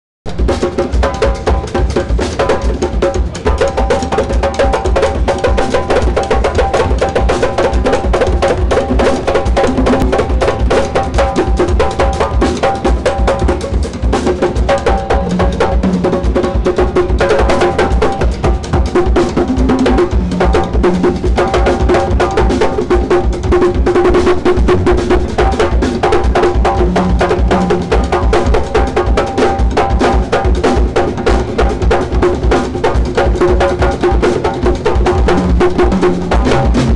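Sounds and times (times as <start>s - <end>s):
drum kit and percussion beat: 0.3s - 36.9s
live band playing loudly: 0.3s - 36.9s.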